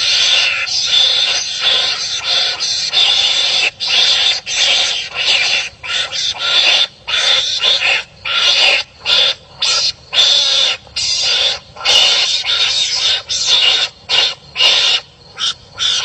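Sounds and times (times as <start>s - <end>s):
animals calling harshly: 0.0s - 16.0s.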